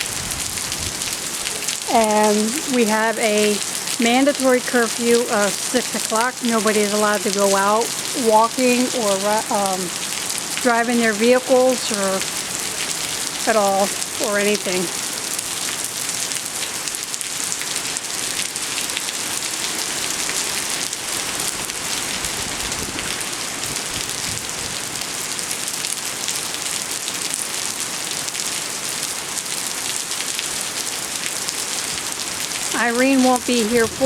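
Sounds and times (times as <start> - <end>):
heavy rain: 0.0 - 34.0.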